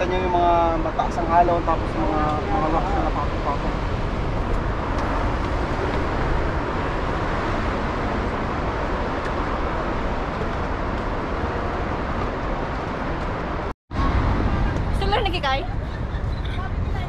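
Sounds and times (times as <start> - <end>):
surf rushing: 0.0 - 17.0
wind: 0.0 - 17.0.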